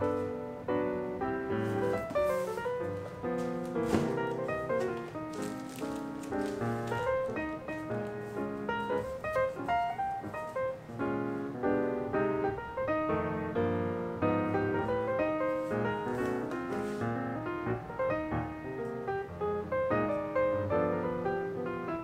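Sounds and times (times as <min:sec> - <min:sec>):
quick piano notes: 0:00.0 - 0:22.0.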